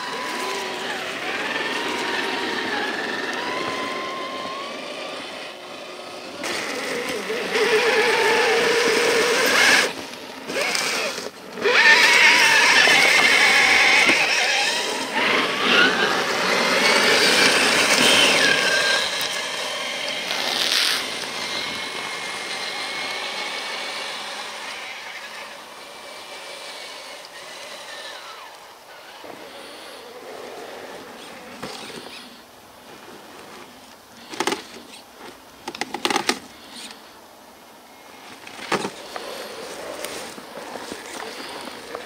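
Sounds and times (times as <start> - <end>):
electric motor whining: 0.0 - 32.4, 38.3 - 42.0.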